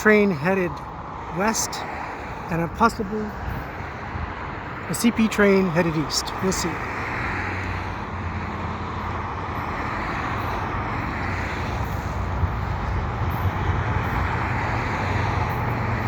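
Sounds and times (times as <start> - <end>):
diesel freight train rumbling: 0.0 - 16.0.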